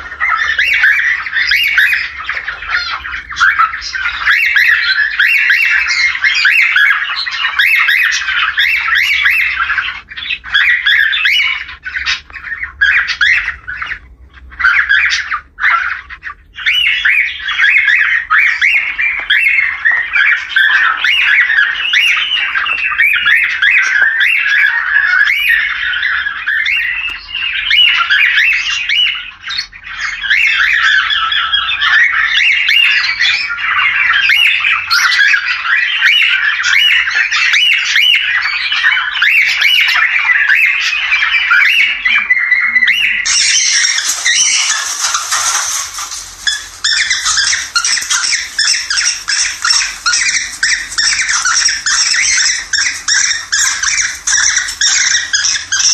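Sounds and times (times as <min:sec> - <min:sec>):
cockatiel squawks and chirps: 0:00.0 - 0:55.9.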